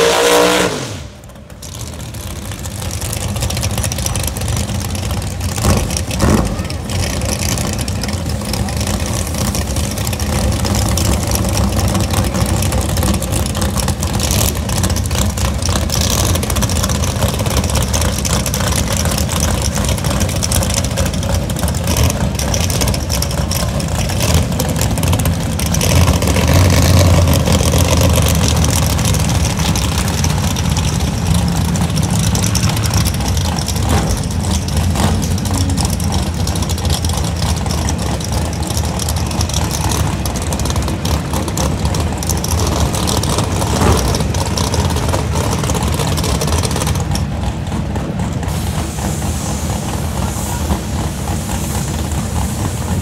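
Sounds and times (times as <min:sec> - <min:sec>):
drag car engines revving: 0:00.0 - 0:53.0.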